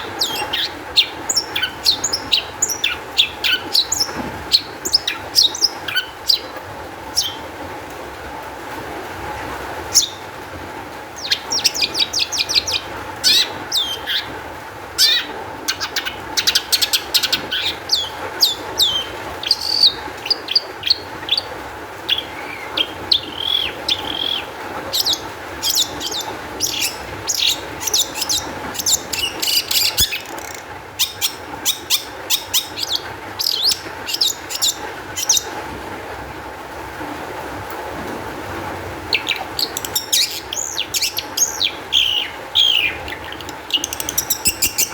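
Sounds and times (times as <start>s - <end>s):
bird singing rapid high chirps: 0.0s - 6.6s, 7.2s - 7.4s, 9.9s - 10.3s, 11.2s - 14.4s, 15.0s - 35.6s, 39.1s - 44.9s.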